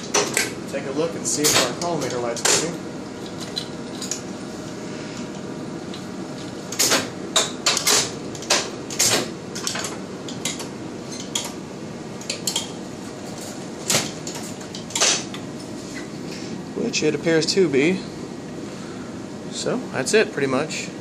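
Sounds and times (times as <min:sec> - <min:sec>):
faint machine hum: 0:00.0 - 0:21.0.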